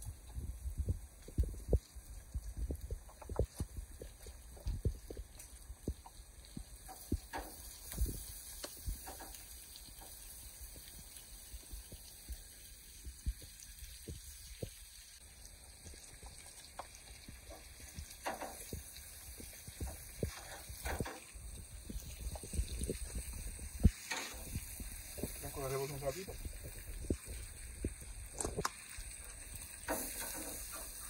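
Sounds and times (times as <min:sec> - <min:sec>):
meat sizzling: 0:00.0 - 0:31.0.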